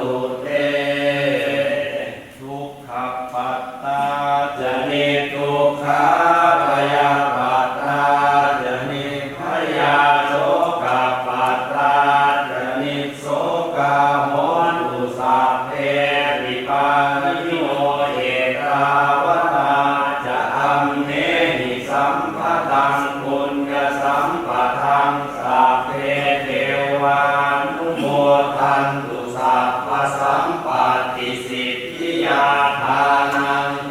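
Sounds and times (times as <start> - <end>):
group chanting in unison: 0.0 - 33.9.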